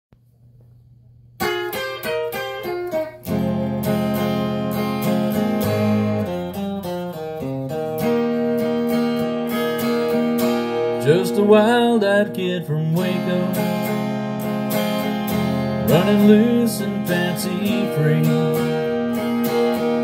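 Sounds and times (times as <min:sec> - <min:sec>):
acoustic guitar playing: 0:00.4 - 0:20.0.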